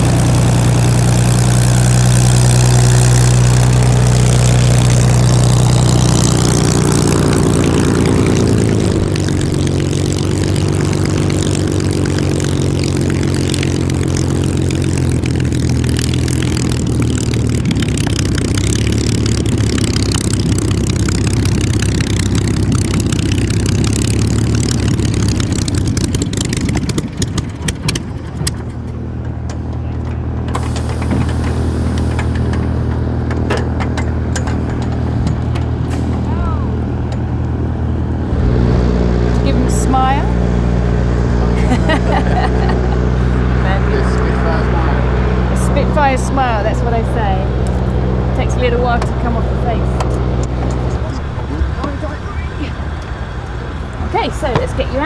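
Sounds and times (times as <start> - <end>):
piston aircraft engine running: 0.0 - 55.0.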